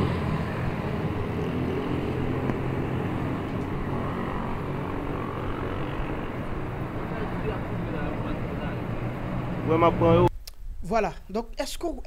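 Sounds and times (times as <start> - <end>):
vehicle engine and road noise: 0.0 - 10.3.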